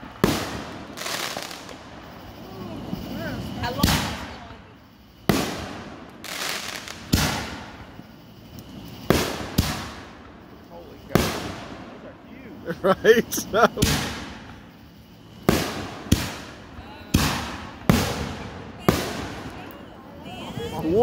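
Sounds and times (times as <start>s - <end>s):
firework bangs: 0.0s - 21.0s
firework crackling: 0.0s - 21.0s.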